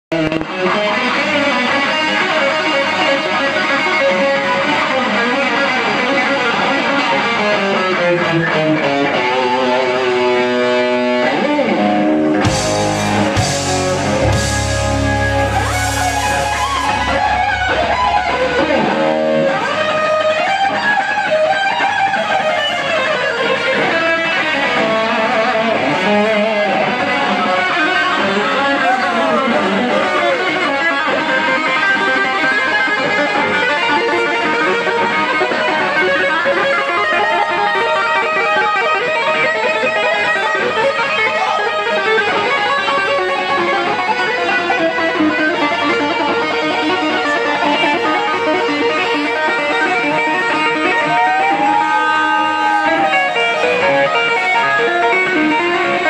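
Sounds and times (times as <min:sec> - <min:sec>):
fast electric guitar lead: 0:00.1 - 0:56.0
live rock band playing: 0:00.1 - 0:56.0.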